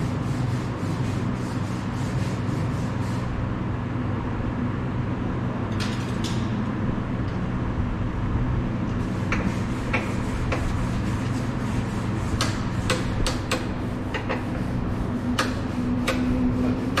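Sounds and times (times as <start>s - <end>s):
low workshop hum: 0.0s - 17.0s.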